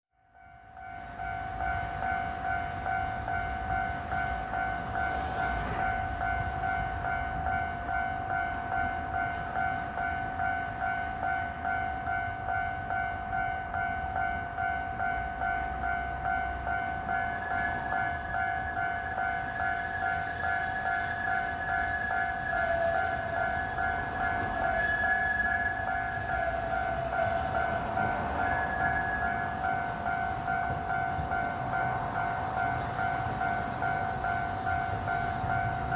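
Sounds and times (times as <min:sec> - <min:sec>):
higher bell tone: 0:00.4 - 0:35.9.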